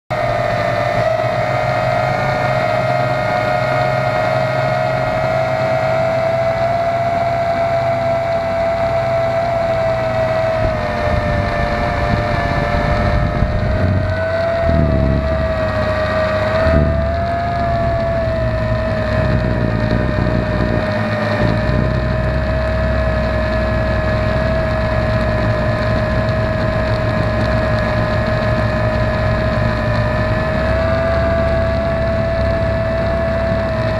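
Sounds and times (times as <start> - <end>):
drone propellers whining: 0.1 - 33.9
wind rumble on microphone: 0.1 - 33.9.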